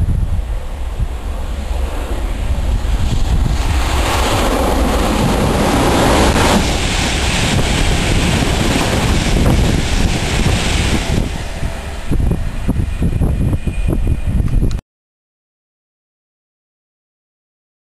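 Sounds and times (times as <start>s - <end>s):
train rushing past: 0.0s - 14.7s
wind rumble on microphone: 0.0s - 14.8s.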